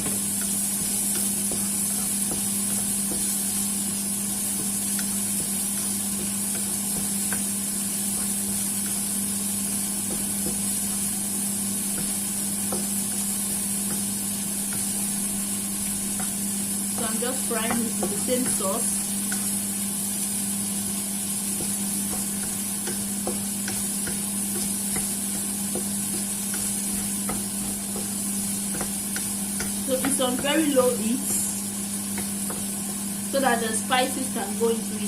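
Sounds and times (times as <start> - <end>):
shrimp sizzling in oil: 0.0 - 35.0.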